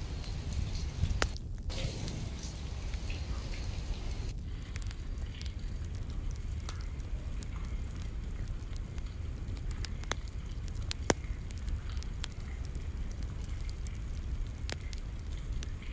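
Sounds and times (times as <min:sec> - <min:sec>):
low wind rumble: 0:00.0 - 0:15.9
rain drop clicks: 0:00.0 - 0:15.9.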